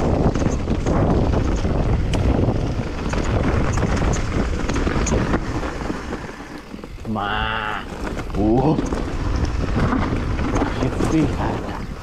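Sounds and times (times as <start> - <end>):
bike knocks and rattles: 0.0 - 7.1, 7.9 - 12.0
bike tyres rolling on dirt: 0.0 - 12.0
wind buffeting microphone: 0.0 - 12.0.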